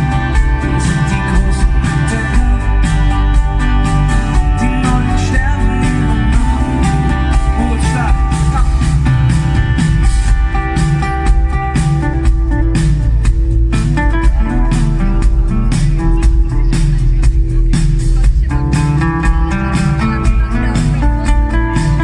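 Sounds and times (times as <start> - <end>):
live band with guitar: 0.0 - 22.0.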